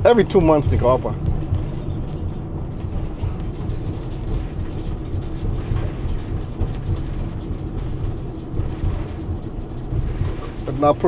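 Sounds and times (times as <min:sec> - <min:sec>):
light rattling: 0:00.0 - 0:11.0
truck engine rumble: 0:00.0 - 0:11.0.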